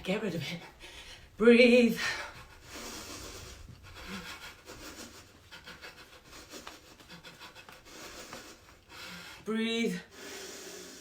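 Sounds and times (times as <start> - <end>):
deep breaths rasping: 2.0 - 11.0.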